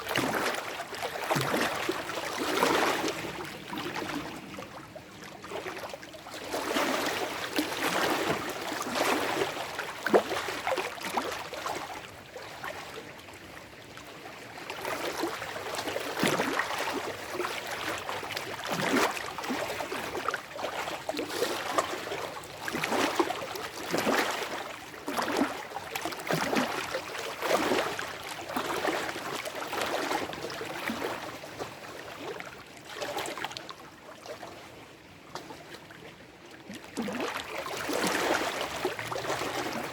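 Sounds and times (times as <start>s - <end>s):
waves lapping over rocks: 0.0s - 13.0s, 14.6s - 33.7s, 36.6s - 39.9s.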